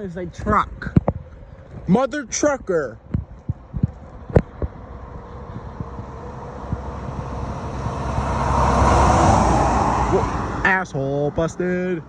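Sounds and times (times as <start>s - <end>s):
road vehicle approaching: 0.0s - 12.0s.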